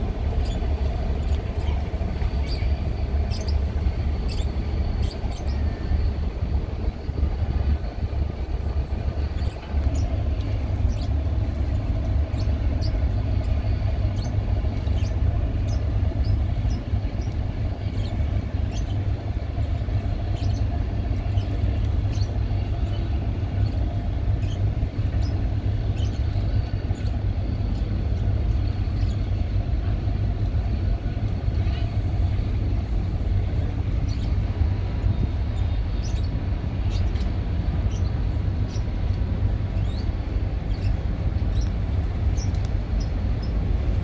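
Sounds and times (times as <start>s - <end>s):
boat engine rumbling: 0.0s - 44.0s.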